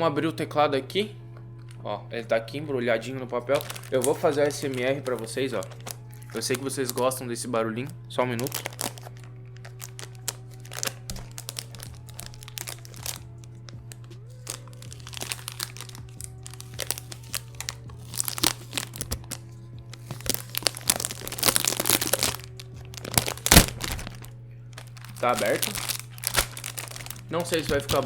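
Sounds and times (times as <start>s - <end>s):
background music with held notes: 0.0s - 28.0s
paper wrapping crinkling and tearing: 3.3s - 7.2s, 8.3s - 28.0s.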